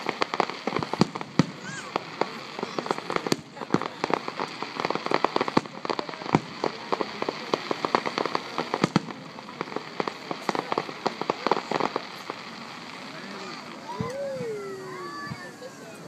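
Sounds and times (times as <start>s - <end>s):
fireworks bangs: 0.0s - 16.0s
fireworks crackling pops: 0.0s - 16.0s.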